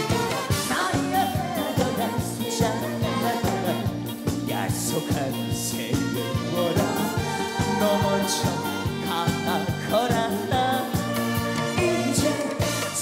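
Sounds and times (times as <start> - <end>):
band with steady drum beat: 0.0 - 13.0
man singing with vibrato: 0.0 - 13.0.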